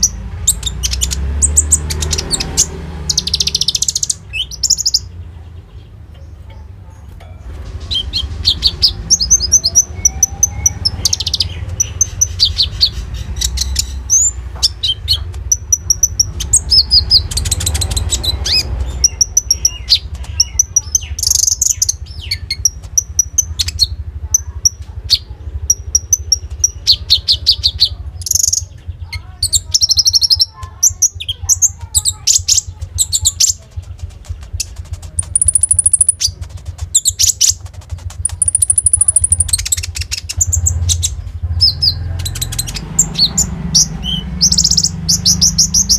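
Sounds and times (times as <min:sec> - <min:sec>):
songbird chirping and trilling: 0:00.0 - 0:45.9.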